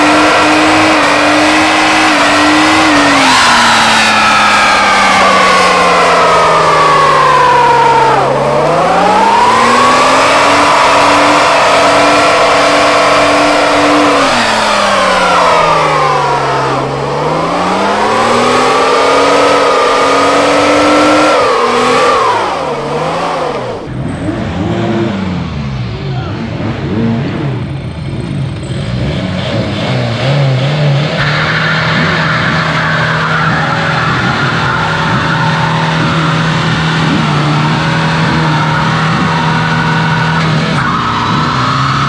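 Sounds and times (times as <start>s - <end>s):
engine revving hard: 0.0s - 25.8s, 26.4s - 42.0s.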